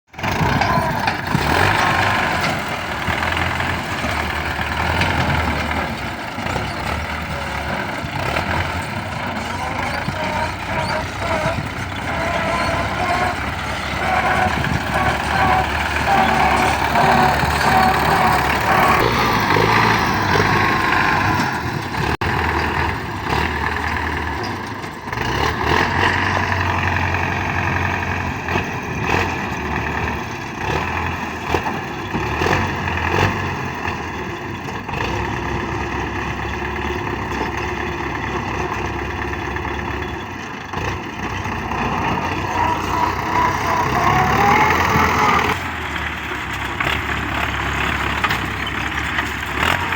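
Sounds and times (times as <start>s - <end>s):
combine harvester running: 0.1s - 49.9s.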